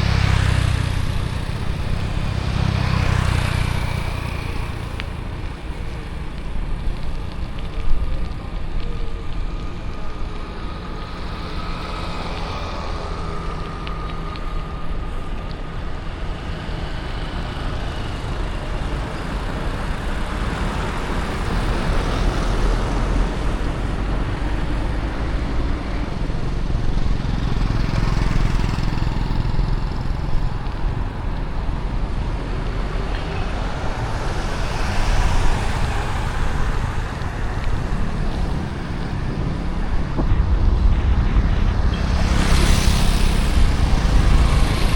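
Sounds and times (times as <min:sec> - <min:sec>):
passing vehicle engines: 0:00.0 - 0:44.9.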